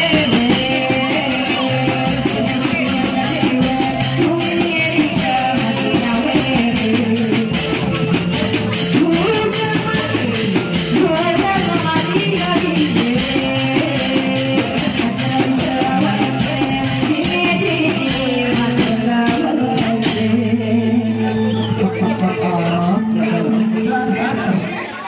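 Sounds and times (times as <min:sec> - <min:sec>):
steady drum beat: 0:00.0 - 0:24.7
music with singing: 0:00.0 - 0:25.0.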